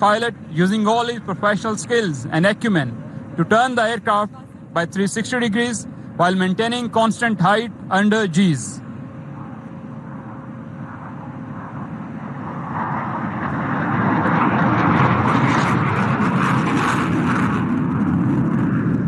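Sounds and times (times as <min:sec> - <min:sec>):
fighter jet turbofan roar: 0:00.0 - 0:19.0.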